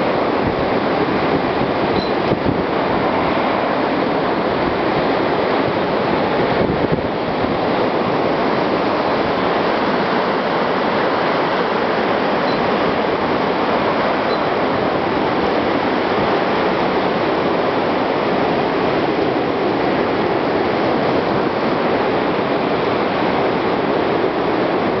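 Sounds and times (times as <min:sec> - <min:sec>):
strong wind blowing through trees: 0:00.0 - 0:25.0.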